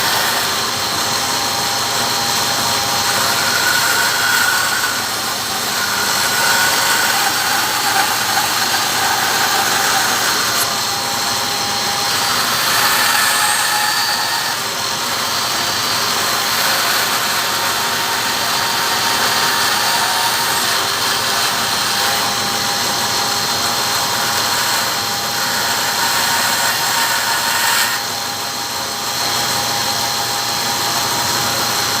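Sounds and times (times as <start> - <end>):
power tool cutting wood: 0.0 - 32.0.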